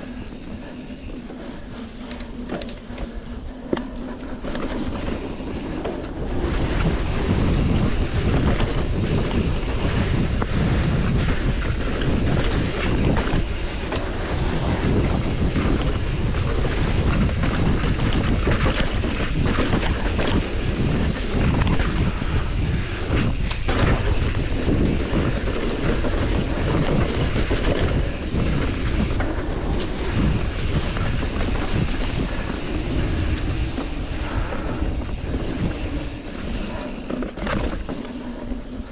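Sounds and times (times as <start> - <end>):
bike tyres rumbling over dirt: 0.0 - 38.9
wind buffeting microphone: 0.0 - 38.9.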